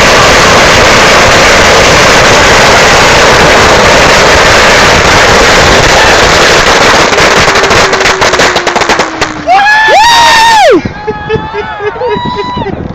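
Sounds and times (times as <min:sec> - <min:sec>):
firecrackers crackling: 0:00.0 - 0:10.9.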